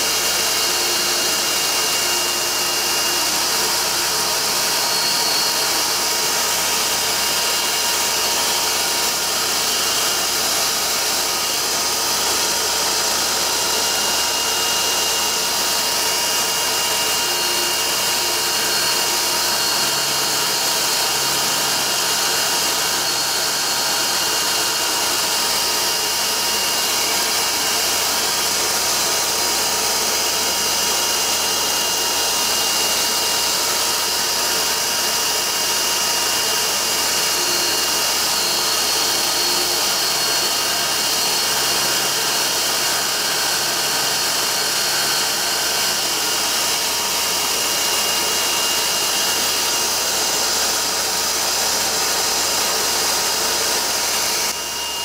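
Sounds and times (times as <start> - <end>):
dust extraction vacuum running: 0.0 - 55.0.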